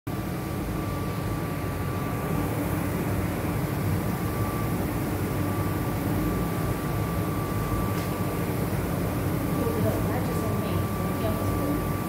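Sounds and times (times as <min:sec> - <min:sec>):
low rumble and hum: 0:00.1 - 0:12.0
thin steady whine: 0:00.1 - 0:12.0.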